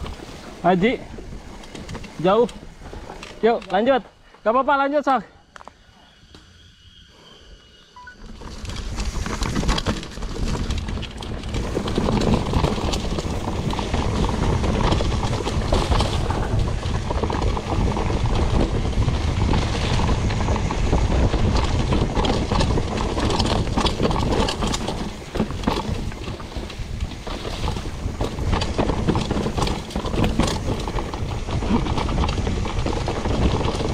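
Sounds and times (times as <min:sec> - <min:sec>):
bike rattling and clattering: 0:00.0 - 0:05.2, 0:08.1 - 0:33.9
tyres rumbling on dirt: 0:00.0 - 0:05.2, 0:08.2 - 0:33.9.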